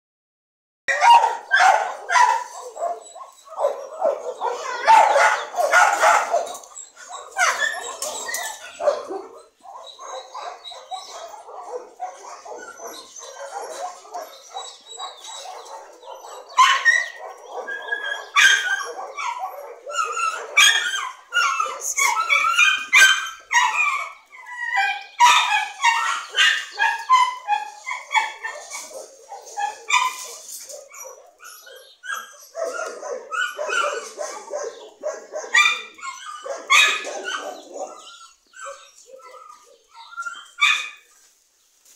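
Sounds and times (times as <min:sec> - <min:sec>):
dogs barking: 0:00.9 - 0:41.1.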